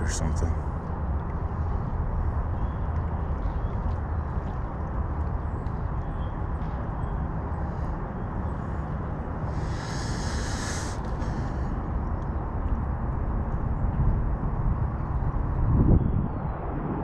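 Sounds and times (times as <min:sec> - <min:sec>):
low rumbling outdoor noise: 0:00.0 - 0:17.0.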